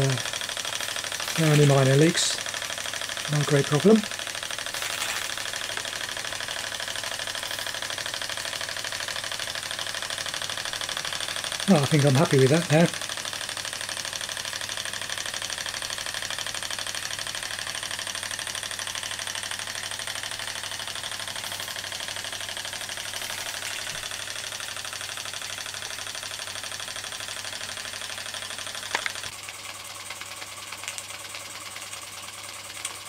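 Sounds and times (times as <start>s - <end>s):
toy steam engine cylinder beating: 0.0s - 33.0s.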